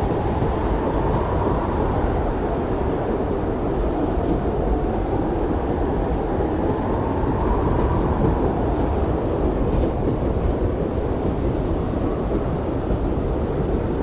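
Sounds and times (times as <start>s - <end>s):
blizzard wind blowing: 0.0s - 14.0s
faint wind whistle: 0.0s - 14.0s.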